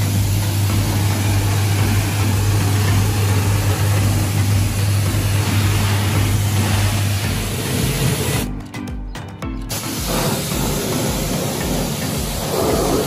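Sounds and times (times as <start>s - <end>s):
water jet hissing on plastic: 0.0s - 8.5s, 9.7s - 13.0s
pressure washer hum: 0.0s - 8.7s, 9.6s - 13.0s.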